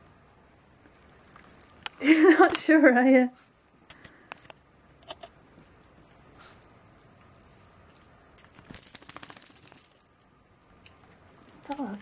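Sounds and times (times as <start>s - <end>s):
dog collar tag jingling: 0.8s - 4.2s, 4.8s - 12.0s.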